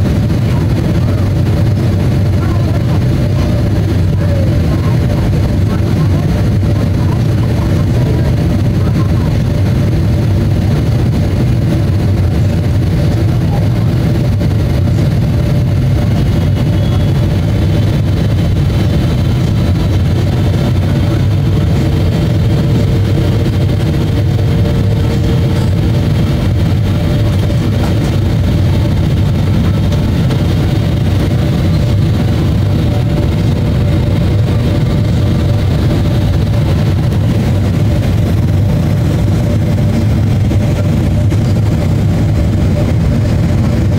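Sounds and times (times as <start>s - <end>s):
aircraft cabin engine rush: 0.0s - 43.9s.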